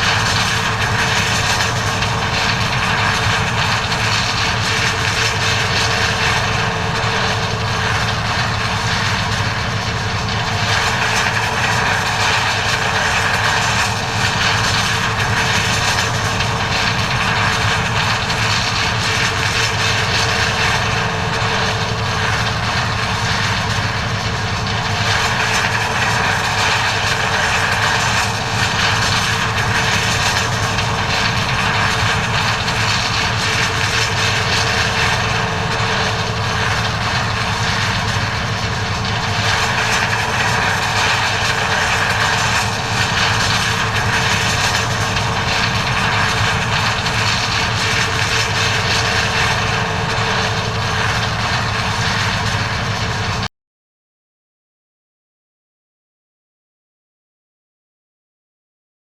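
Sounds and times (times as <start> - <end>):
combine harvester engine droning: 0.0 - 53.5.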